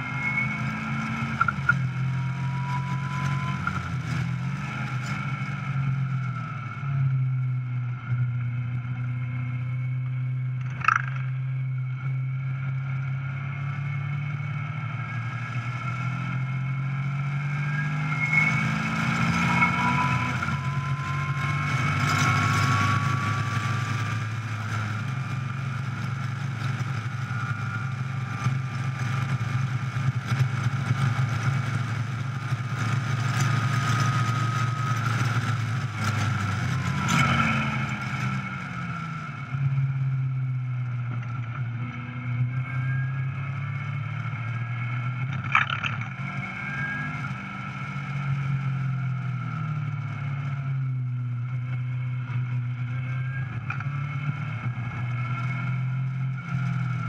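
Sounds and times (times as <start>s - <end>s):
car engine running at speed: 0.0s - 57.0s.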